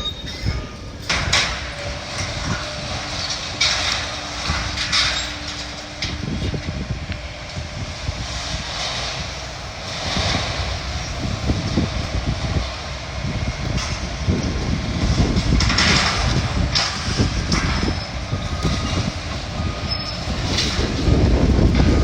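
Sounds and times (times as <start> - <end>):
excavator diesel engines: 0.0 - 22.0
metal debris crunching and scraping: 0.2 - 22.0.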